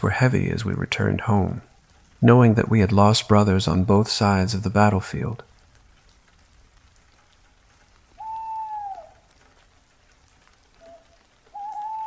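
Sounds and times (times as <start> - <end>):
faint rain falling: 0.0 - 12.0.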